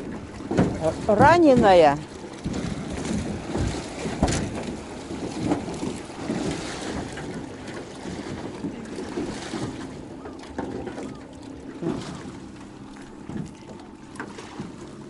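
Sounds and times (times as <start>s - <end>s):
wind buffeting the microphone: 0.0s - 12.6s
river water lapping: 0.0s - 15.0s.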